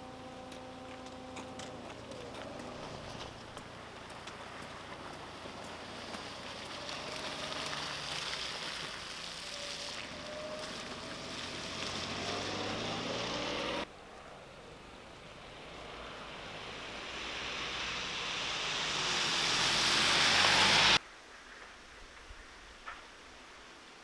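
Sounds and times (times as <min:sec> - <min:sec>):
tyres hissing on wet road: 0:00.0 - 0:24.0.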